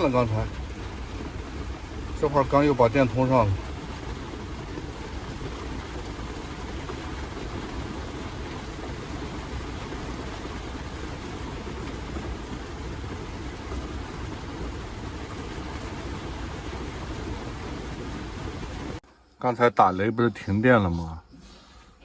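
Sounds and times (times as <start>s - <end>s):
heavy rain on a roof: 0.0s - 19.0s.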